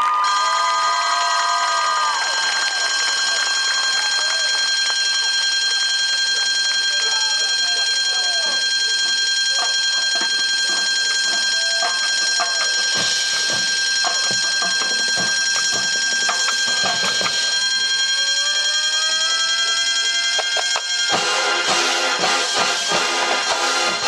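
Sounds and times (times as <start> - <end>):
high-pitched alarm tone: 0.2 - 24.0.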